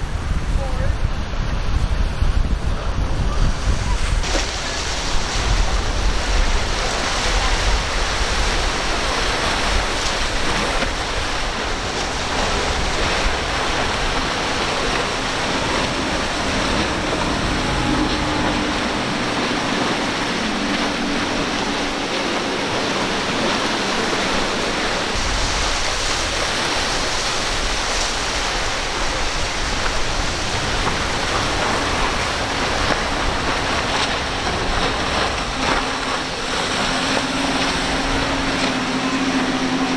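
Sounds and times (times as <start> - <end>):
water rushing and spraying: 0.0 - 39.9.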